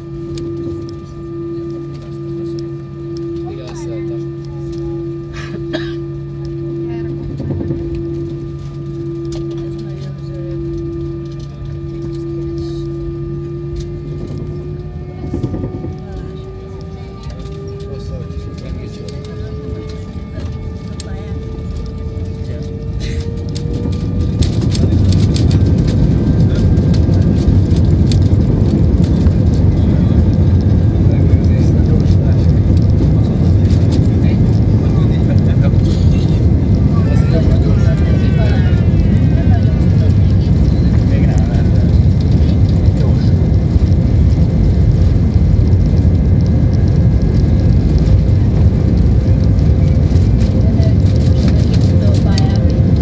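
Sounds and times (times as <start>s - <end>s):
faint steady hum: 0.0s - 53.0s
jet engine and rolling rumble: 0.0s - 53.0s.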